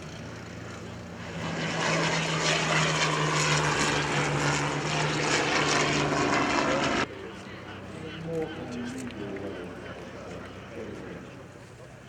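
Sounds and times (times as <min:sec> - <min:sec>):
propeller aircraft flying by: 0:00.0 - 0:12.0.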